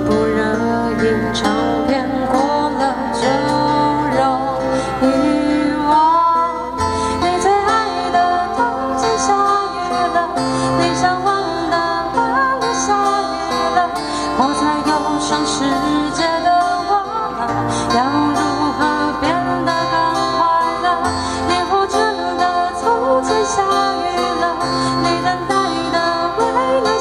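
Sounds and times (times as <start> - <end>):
strummed acoustic guitars: 0.0 - 27.0
woman singing into a microphone: 0.0 - 27.0.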